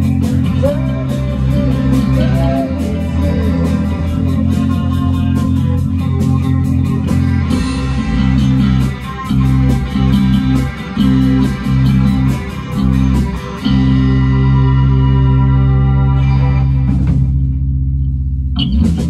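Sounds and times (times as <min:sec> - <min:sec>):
drum kit with cymbal hits: 0:00.0 - 0:15.6, 0:16.7 - 0:19.0
bass guitar: 0:00.0 - 0:19.0
electric guitar: 0:00.0 - 0:19.0.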